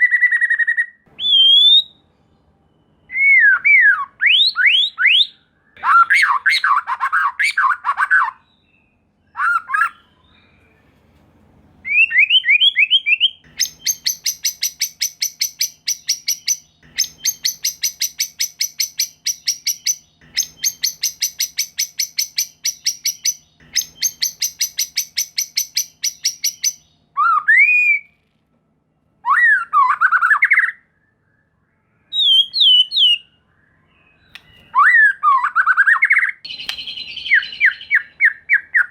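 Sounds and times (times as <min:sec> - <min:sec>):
bird whistled song phrases: 0:00.0 - 0:02.0, 0:02.7 - 0:10.8, 0:11.8 - 0:28.1, 0:29.2 - 0:38.9.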